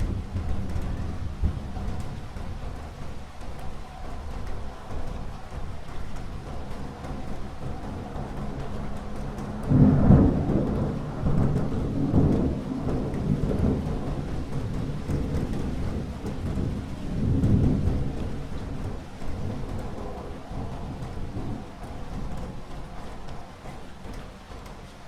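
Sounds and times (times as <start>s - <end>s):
thunder rumbling: 0.0s - 24.7s
steady rain: 0.0s - 25.0s.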